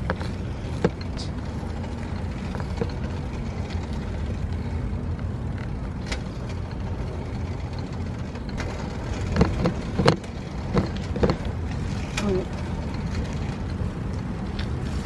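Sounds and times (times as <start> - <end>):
bicycle tyres rolling: 0.0 - 15.0
bike rattling: 0.0 - 15.0.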